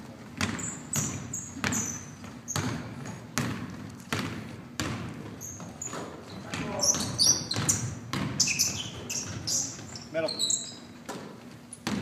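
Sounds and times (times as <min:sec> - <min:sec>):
basketball bouncing on gym floor: 0:00.0 - 0:12.0
sneakers squeaking on floor: 0:00.0 - 0:12.0.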